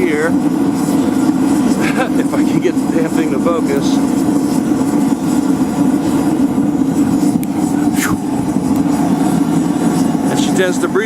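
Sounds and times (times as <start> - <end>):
forge flame roaring: 0.0 - 11.0.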